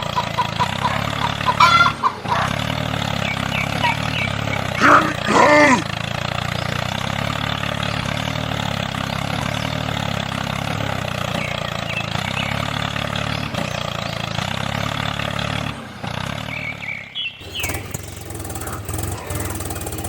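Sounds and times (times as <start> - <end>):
small tractor motor running: 0.0 - 20.0.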